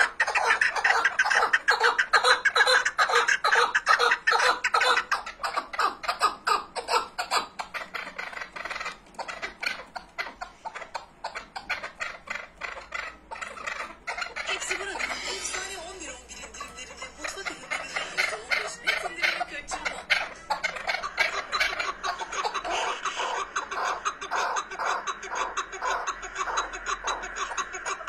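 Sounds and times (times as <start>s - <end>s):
partridge calling: 0.0s - 28.0s.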